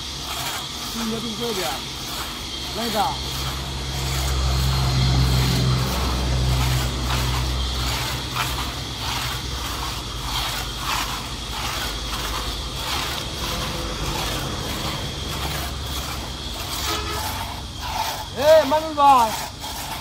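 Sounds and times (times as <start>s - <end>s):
hand saw rasping through log: 0.0s - 20.0s.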